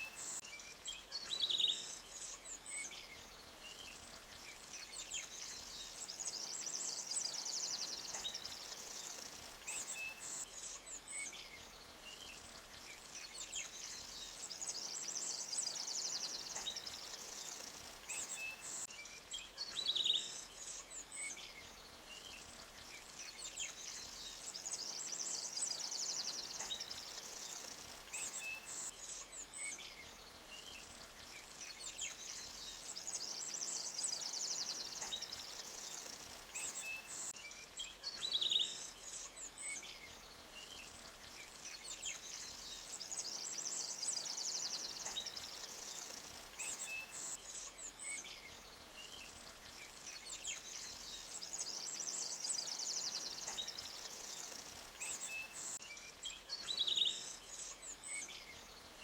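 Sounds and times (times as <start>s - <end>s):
stream running: 0.0s - 0.4s, 3.4s - 18.9s, 21.9s - 37.4s, 38.8s - 55.8s
small birds chirping: 0.0s - 59.0s.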